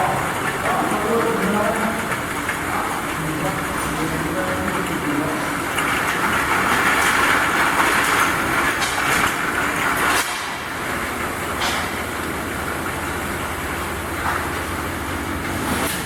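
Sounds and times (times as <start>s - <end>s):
bottle washing machine clatter: 0.0s - 16.0s.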